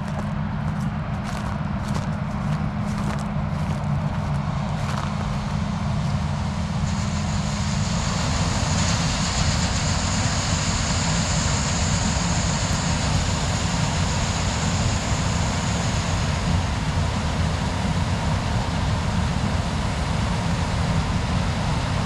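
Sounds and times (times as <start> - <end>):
diesel engine drone: 0.0 - 22.0
high steady whine: 0.0 - 22.0.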